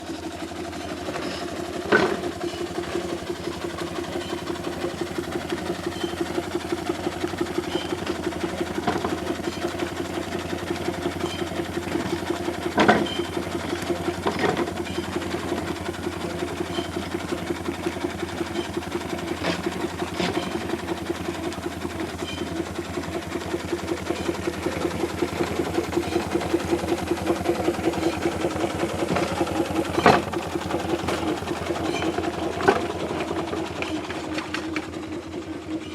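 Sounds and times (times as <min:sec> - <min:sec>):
steam engine beat: 0:00.0 - 0:35.9.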